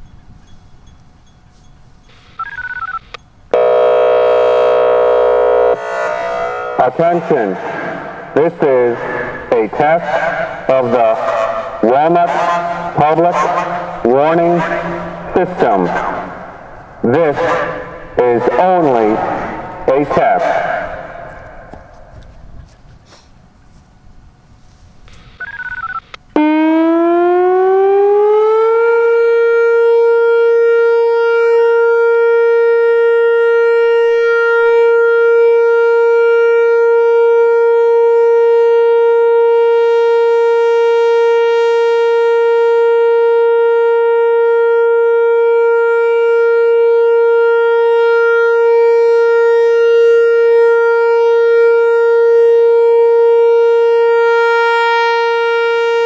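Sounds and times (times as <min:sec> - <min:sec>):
outdoor warning siren: 0:00.0 - 0:22.7, 0:23.5 - 0:56.0.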